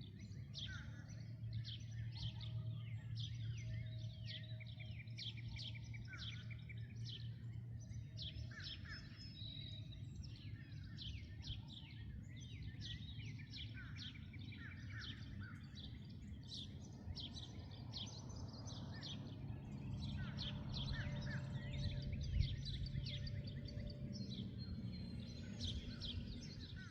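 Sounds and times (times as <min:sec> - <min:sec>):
low background rumble: 0:00.0 - 0:26.9
small birds chirping: 0:00.0 - 0:26.9.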